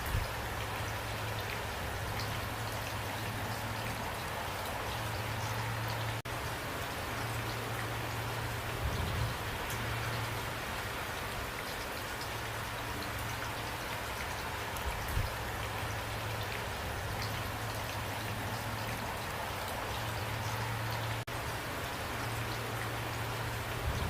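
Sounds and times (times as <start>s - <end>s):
raindrops ticking: 0.0s - 24.0s
steady rain hiss: 0.0s - 24.0s.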